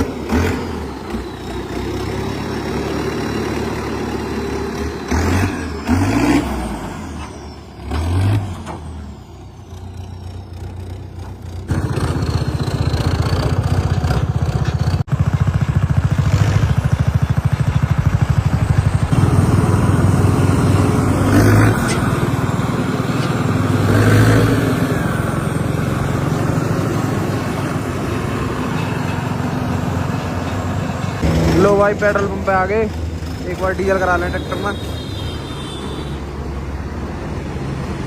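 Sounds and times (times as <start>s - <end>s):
diesel tractor engine chugging: 0.0s - 38.0s.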